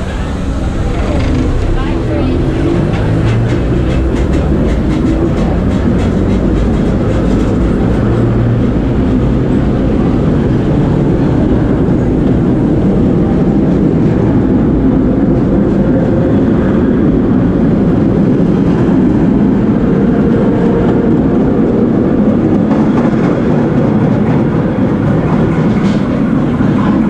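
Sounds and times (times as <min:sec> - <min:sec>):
subway train rumbling on rails: 0:00.0 - 0:27.0
train wheel clatter: 0:00.0 - 0:27.0.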